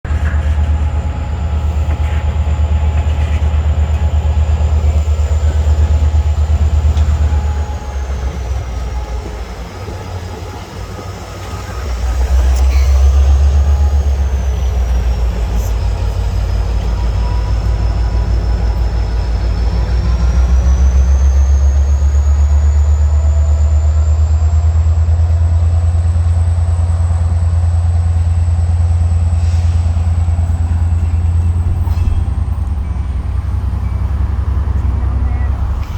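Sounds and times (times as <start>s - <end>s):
freight train rumble: 0.0s - 35.9s.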